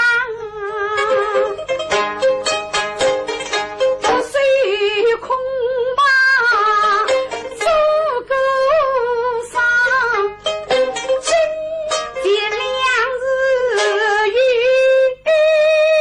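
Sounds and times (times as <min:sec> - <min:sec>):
person singing with vibrato: 0:00.0 - 0:01.8, 0:03.9 - 0:16.0
plucked strings: 0:00.0 - 0:16.0.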